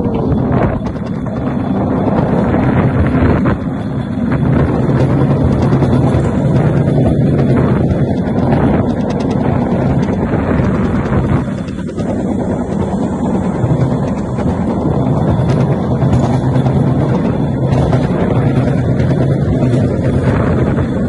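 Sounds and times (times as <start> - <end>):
rail car rumbling on track: 0.0 - 21.0
wind buffeting microphone: 0.0 - 21.0.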